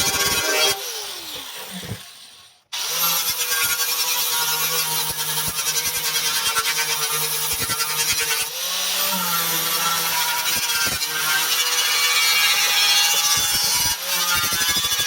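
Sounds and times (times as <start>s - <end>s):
power tool whining on metal: 0.0s - 15.0s.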